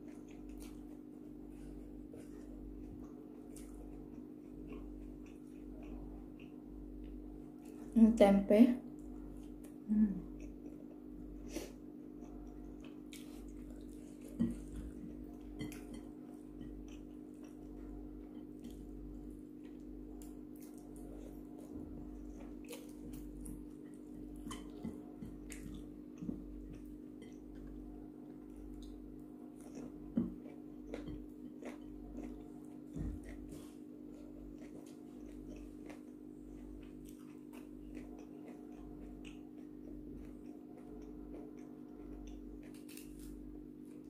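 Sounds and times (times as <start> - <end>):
person chewing: 0.0 - 7.9, 9.0 - 44.0
steady low hum: 0.0 - 44.0.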